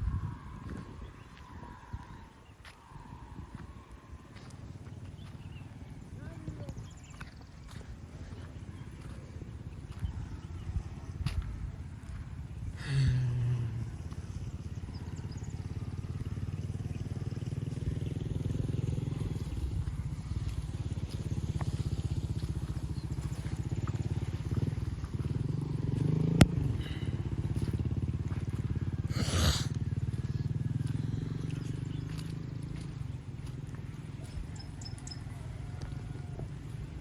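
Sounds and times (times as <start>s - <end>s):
engine running with low pulsing: 0.0s - 37.0s.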